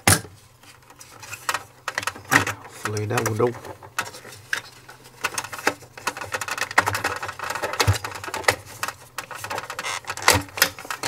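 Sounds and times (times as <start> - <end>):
plastic parts knocking and clicking: 0.9 - 11.0.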